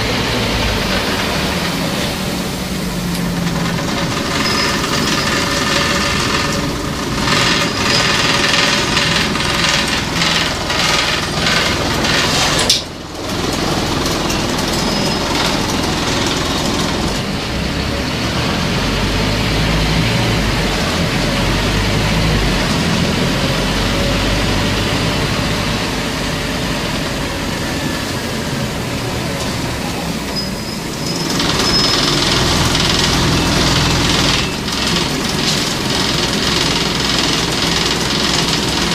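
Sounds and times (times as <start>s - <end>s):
bus diesel engine running: 0.0s - 38.9s
road and body rattle: 0.0s - 38.9s.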